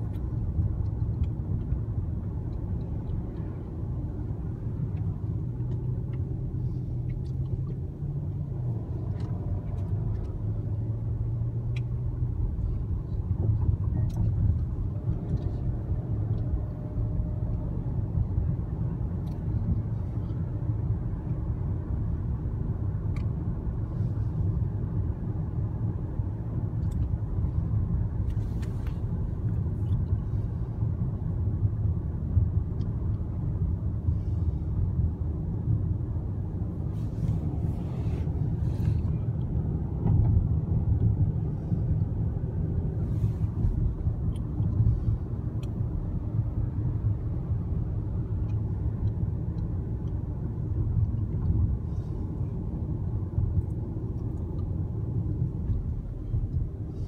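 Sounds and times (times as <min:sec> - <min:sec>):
road and engine rumble in car: 0:00.0 - 0:57.0.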